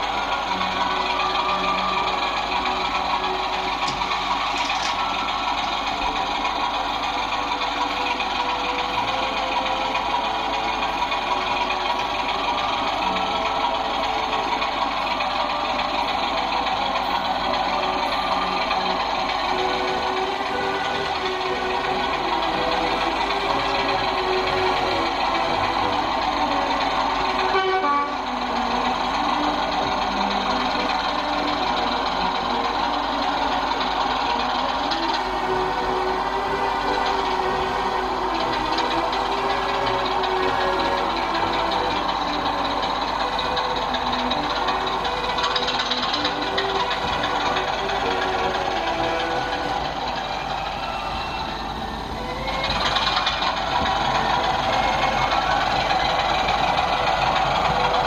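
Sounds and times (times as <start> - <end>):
model train motors whirring: 0.0 - 58.0
wheels rolling over track: 0.0 - 58.0.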